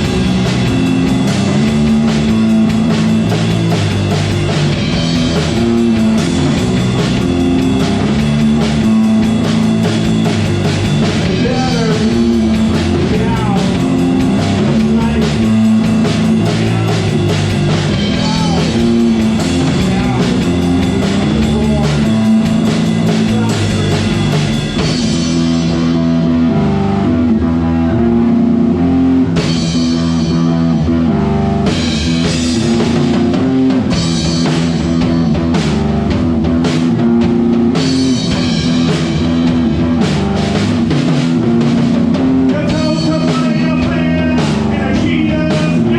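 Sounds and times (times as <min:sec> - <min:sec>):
rock band playing loudly: 0:00.0 - 0:45.9.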